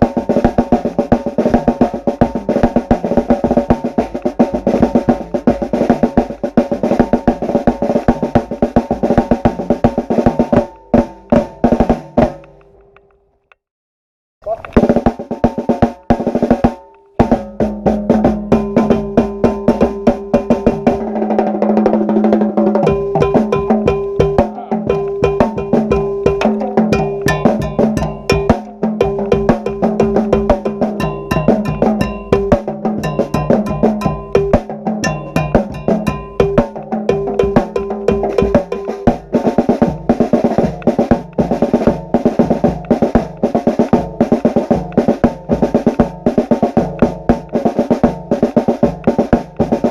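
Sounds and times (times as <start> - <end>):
drum ensemble playing fast rhythm: 0.0 - 12.5, 14.4 - 49.9.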